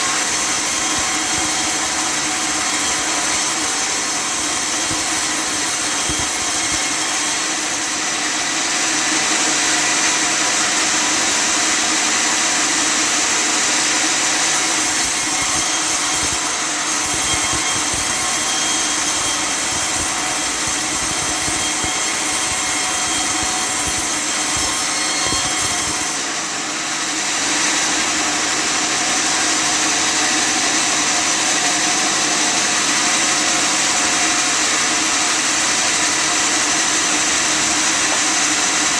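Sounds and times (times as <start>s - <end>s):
sawmill cutting wood: 0.0s - 38.9s.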